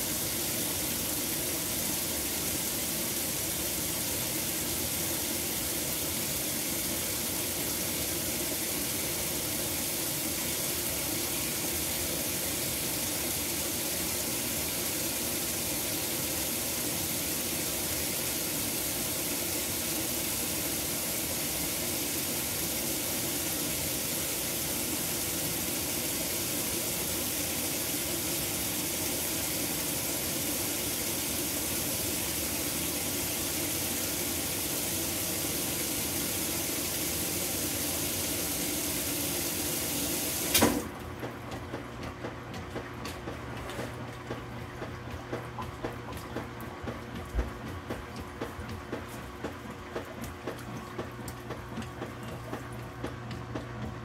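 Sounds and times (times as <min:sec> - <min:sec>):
water spraying into washing machine: 0:00.0 - 0:54.0.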